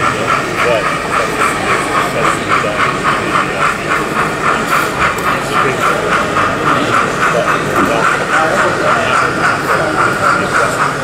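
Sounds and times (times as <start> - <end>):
model steam locomotive chuffing: 0.0 - 11.0
murmur of crowd: 0.0 - 11.0.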